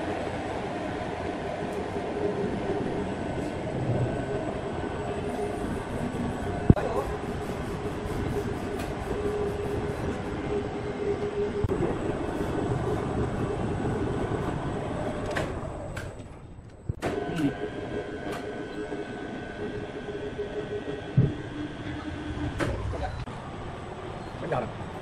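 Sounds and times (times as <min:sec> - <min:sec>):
high machine whine: 0:00.0 - 0:25.0
overhead crane rumbling: 0:00.0 - 0:25.0.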